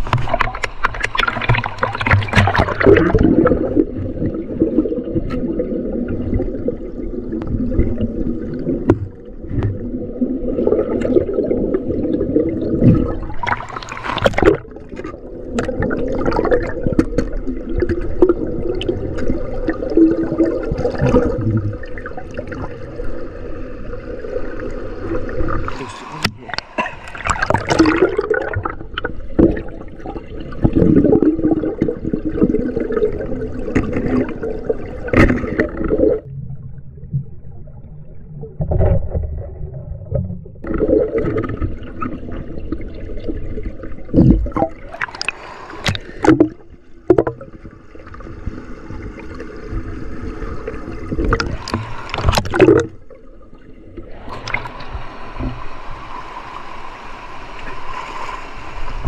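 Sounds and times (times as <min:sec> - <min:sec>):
river water gurgling and splashing: 0:00.0 - 0:36.3, 0:38.6 - 0:59.0.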